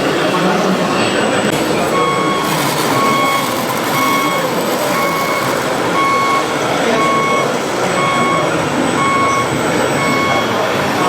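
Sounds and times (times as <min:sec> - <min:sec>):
machines running: 0:00.0 - 0:11.0
reversing alarm beeping: 0:01.6 - 0:11.0.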